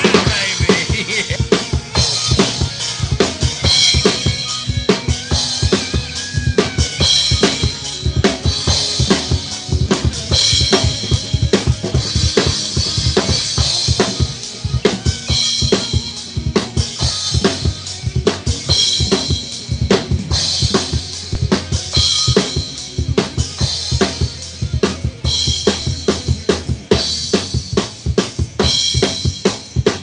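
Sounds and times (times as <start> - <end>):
bass drum and snare strokes: 0.0 - 30.0.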